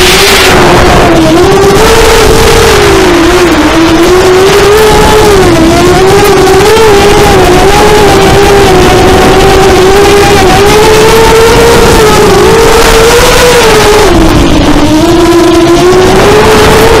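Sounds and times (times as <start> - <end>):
drone motors and propellers whining: 0.0 - 17.0
steady rushing noise: 0.0 - 17.0.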